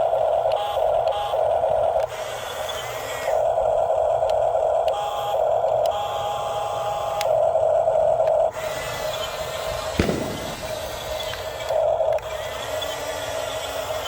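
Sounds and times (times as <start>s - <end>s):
model truck electric motor whining: 0.0s - 14.0s.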